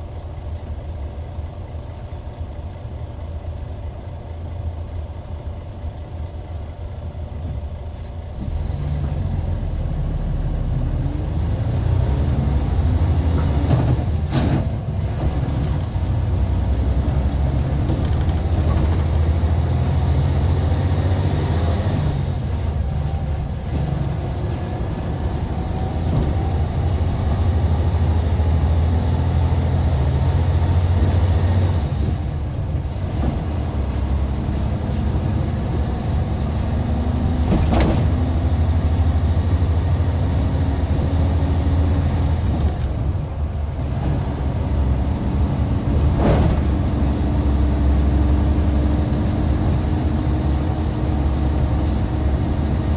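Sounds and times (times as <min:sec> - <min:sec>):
diesel coach engine pulling under load: 0:00.0 - 0:52.9.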